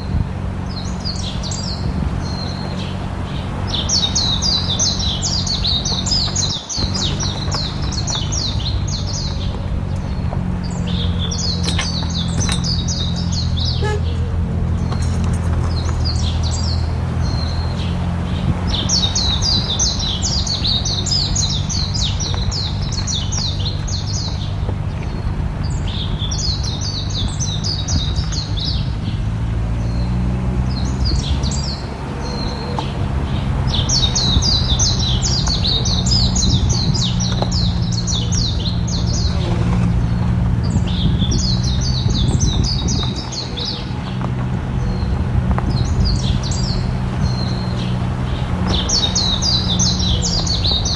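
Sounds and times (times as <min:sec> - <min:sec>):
songbirds trilling: 0:00.0 - 0:50.9.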